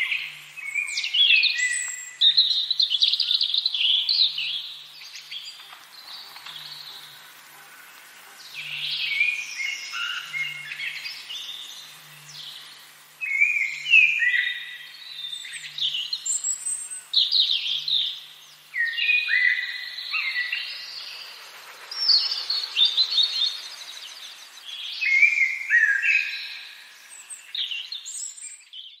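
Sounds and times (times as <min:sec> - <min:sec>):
songbirds singing and chirping: 0:00.0 - 0:29.0.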